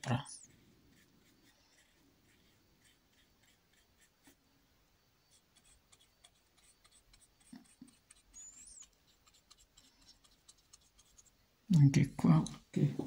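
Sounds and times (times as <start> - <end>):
paintbrush scratching on canvas: 0.0 - 4.4, 5.2 - 11.4.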